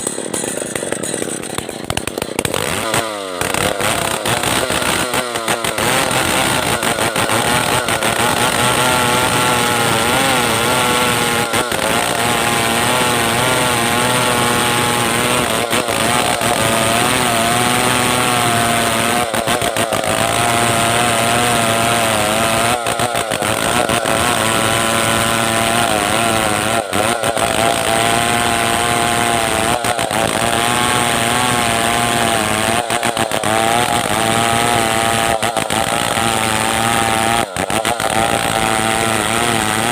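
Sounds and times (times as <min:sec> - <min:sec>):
chainsaw ripping through a log: 0:00.0 - 0:39.9.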